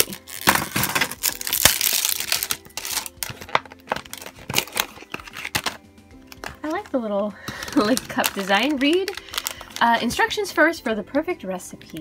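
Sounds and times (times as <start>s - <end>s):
plastic wrap crinkling and tearing: 0.0s - 10.4s.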